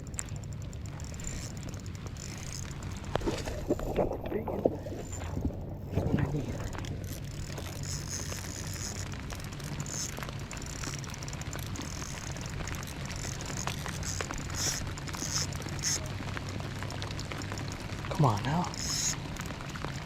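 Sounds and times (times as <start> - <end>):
steady low hum: 0.0 - 19.5
rain pattering: 0.0 - 20.0.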